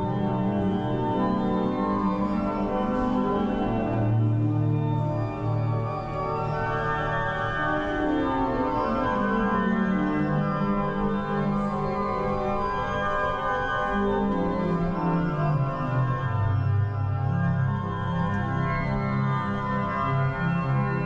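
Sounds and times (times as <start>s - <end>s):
church organ slow chords: 0.0s - 21.0s.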